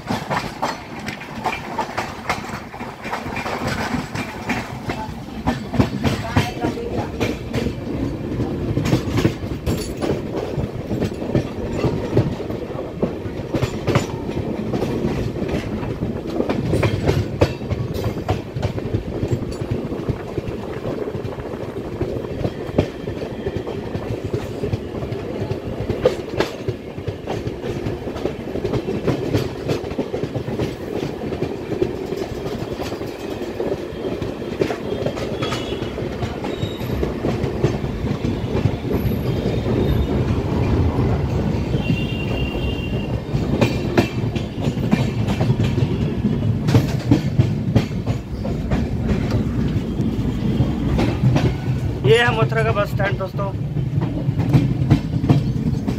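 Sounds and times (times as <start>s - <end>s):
train wheels rumbling: 0.0s - 55.9s
wheels clacking over rail joints: 0.0s - 55.9s.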